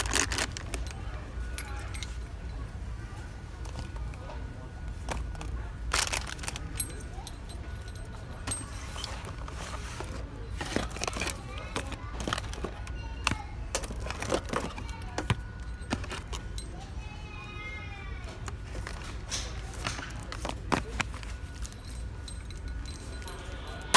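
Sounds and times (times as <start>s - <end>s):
toys clicking and rattling: 0.0s - 2.6s, 5.0s - 17.0s, 18.2s - 23.9s.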